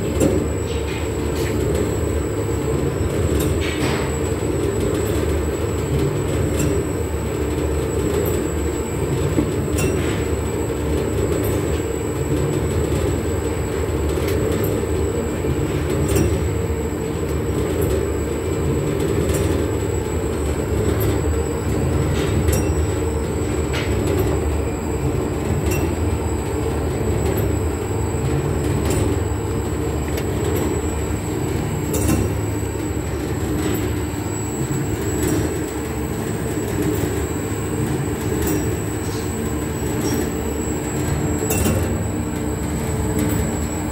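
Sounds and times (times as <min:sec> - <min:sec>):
mixer machine drone: 0:00.0 - 0:43.9.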